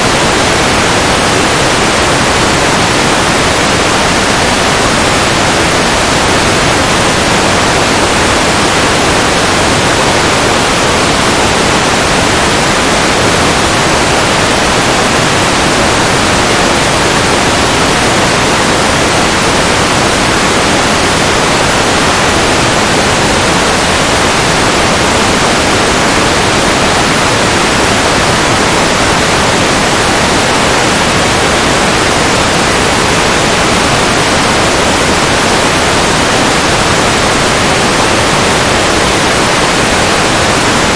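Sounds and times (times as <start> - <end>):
loud static hiss: 0.0 - 40.9.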